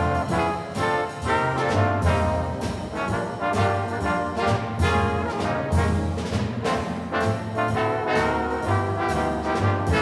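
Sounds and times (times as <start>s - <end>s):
bass line: 0.0s - 10.0s
brass instruments playing: 0.0s - 10.0s.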